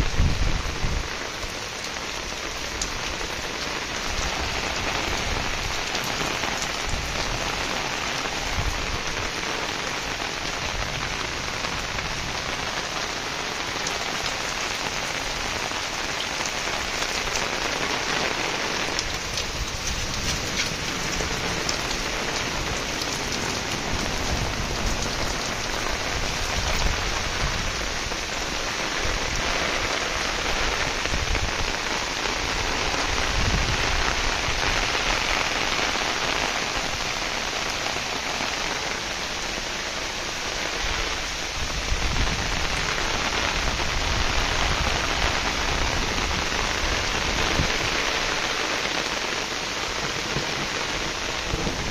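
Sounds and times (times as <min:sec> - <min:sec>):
heavy rain hissing: 0:00.0 - 0:51.9
raindrops ticking nearby: 0:01.0 - 0:51.9.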